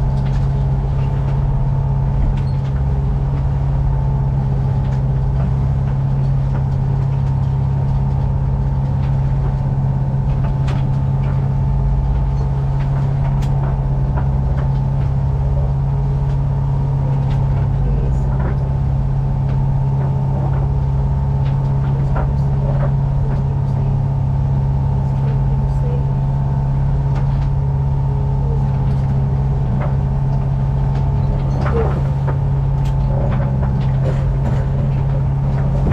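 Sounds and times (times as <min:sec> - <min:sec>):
boat engine droning: 0:00.0 - 0:35.9
higher hum: 0:00.0 - 0:35.9.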